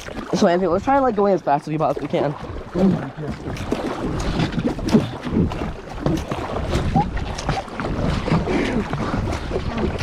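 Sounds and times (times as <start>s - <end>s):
paddles splashing water: 0.0s - 10.0s
wind rumbling on microphone: 0.0s - 10.0s.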